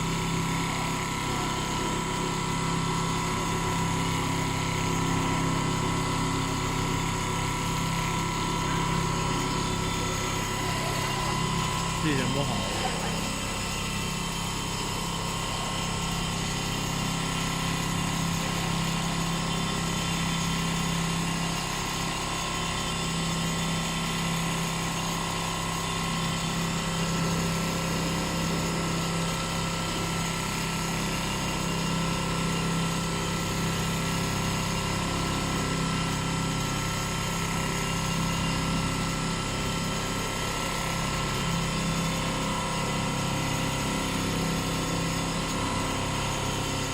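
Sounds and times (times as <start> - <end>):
quilting machine humming: 0.0 - 46.9.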